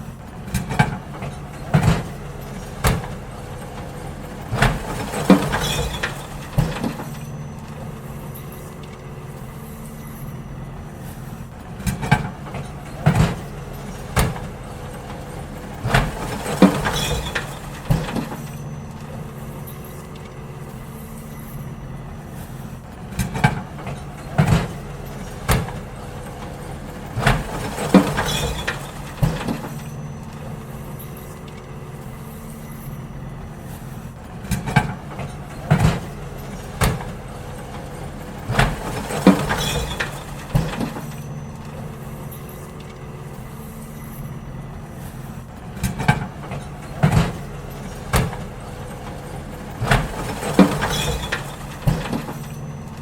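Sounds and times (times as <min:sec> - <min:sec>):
garbage truck running: 0:00.0 - 0:53.0
bins knocking and clattering: 0:00.4 - 0:09.1, 0:11.8 - 0:21.1, 0:23.0 - 0:31.7, 0:33.9 - 0:44.3, 0:45.1 - 0:53.0.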